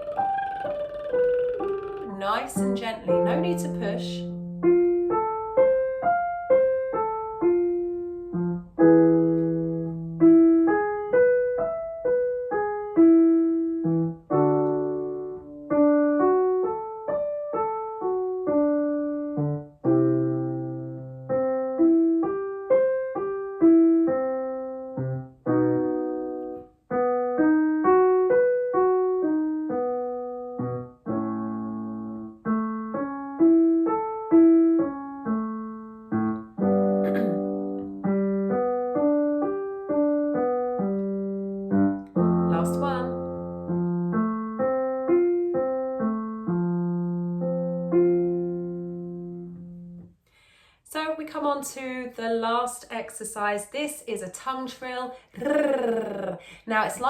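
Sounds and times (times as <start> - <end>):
piano arpeggio runs and chords: 0.0 - 50.2.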